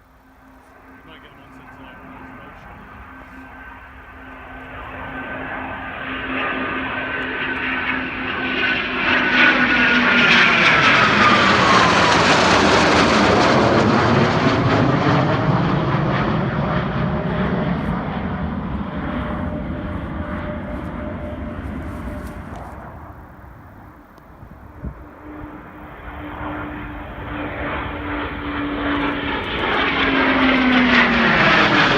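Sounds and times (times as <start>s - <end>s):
jet passing overhead: 0.0s - 31.9s.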